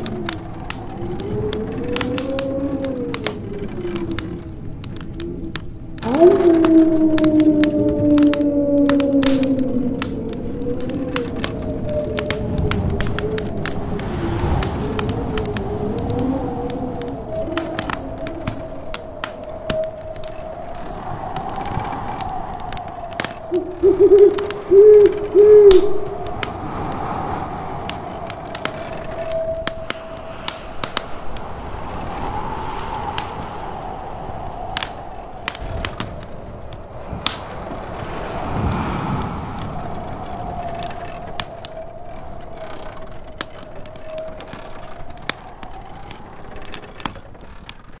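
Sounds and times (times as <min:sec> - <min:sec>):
wind howling: 0:00.0 - 0:48.0
wood fire crackling: 0:00.0 - 0:48.0.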